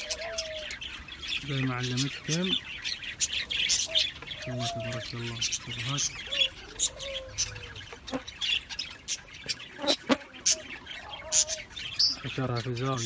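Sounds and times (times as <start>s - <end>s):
budgerigars chirping and chattering: 0.0s - 13.0s.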